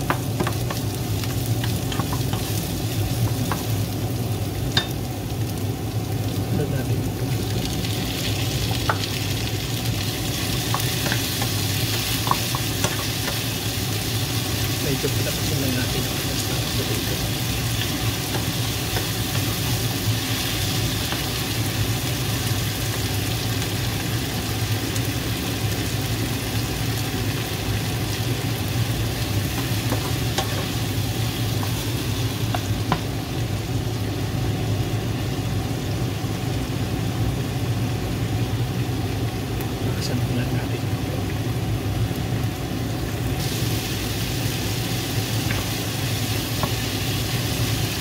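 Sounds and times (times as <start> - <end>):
onions sizzling in hot oil: 0.0 - 48.0
steady low hum: 0.0 - 48.0.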